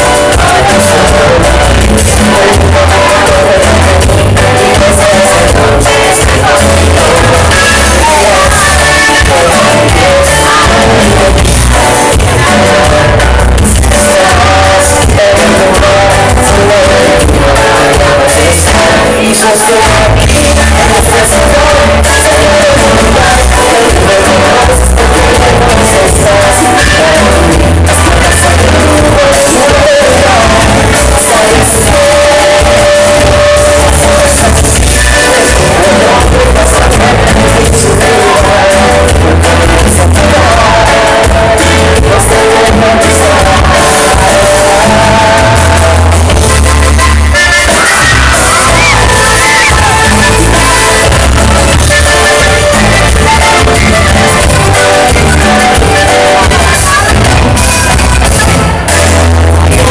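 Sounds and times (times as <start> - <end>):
heavy bass beat: 0.0 - 59.9
live band music: 0.0 - 59.9
man singing: 0.0 - 59.9.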